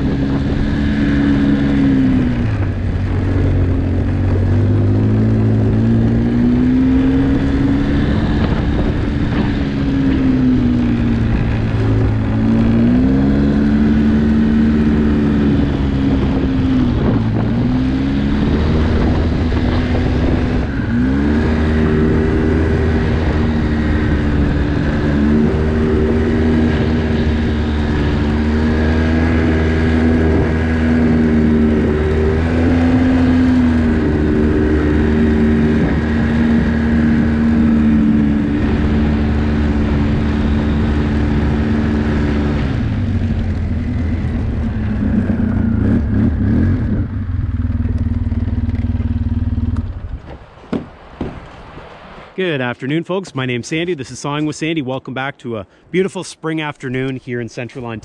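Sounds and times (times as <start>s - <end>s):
atv engine revving: 0.0s - 51.2s.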